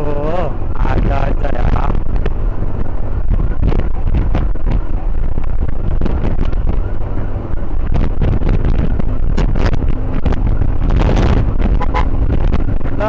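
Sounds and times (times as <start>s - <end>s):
motorcycle engine and road rumble: 0.0s - 13.0s
wind buffeting microphone: 0.0s - 13.0s.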